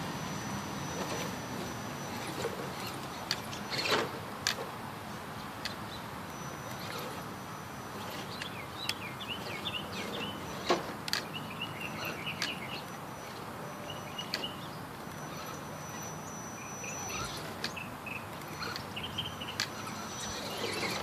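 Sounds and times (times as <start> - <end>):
rc car electric motor whine: 0.0 - 4.8, 5.6 - 21.0
birds chirping: 0.2 - 21.0.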